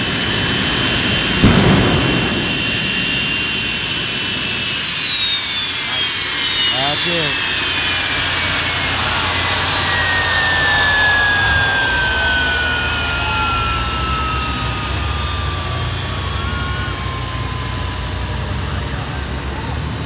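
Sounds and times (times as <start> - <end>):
jet engine winding down: 0.0 - 20.0.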